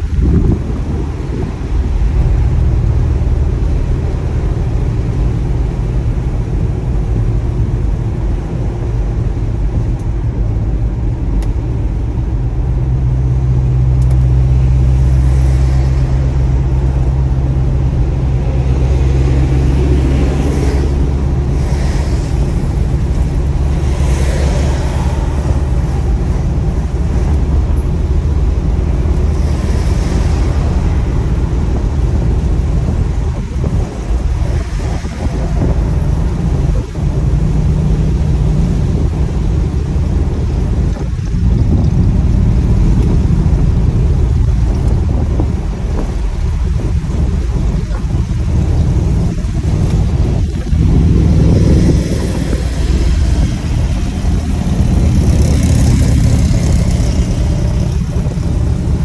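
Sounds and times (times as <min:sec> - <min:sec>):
car engine rumbling: 0:00.0 - 0:59.0.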